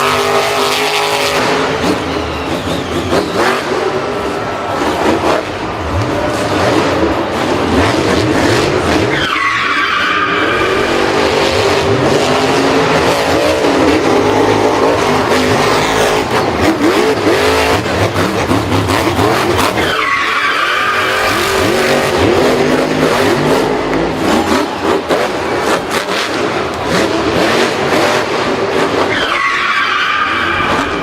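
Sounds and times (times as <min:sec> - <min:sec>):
racing engines revving: 0:00.0 - 0:31.0
tyres skidding: 0:00.0 - 0:31.0.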